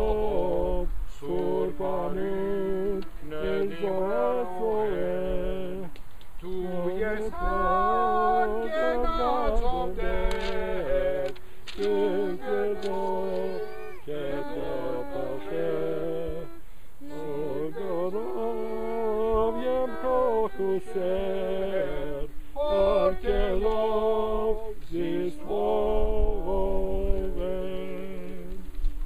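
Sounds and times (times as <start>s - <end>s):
men and women singing a hymn: 0.0s - 29.0s.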